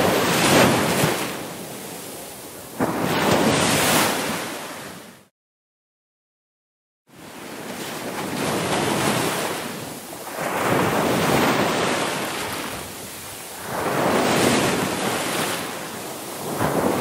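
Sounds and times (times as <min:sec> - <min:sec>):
ocean waves breaking: 0:00.0 - 0:05.3, 0:07.1 - 0:17.0.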